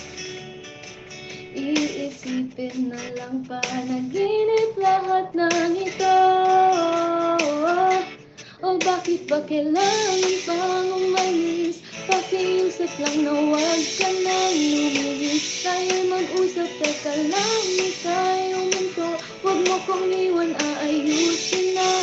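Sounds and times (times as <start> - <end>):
backing music: 0.0 - 22.0
woman singing slow song: 1.5 - 22.0.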